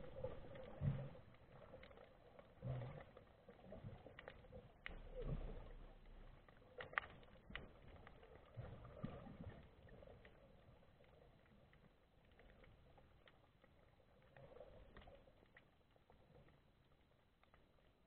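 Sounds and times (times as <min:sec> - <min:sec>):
faint underwater clicks: 0:00.0 - 0:18.0
soft low rumble: 0:00.0 - 0:18.0.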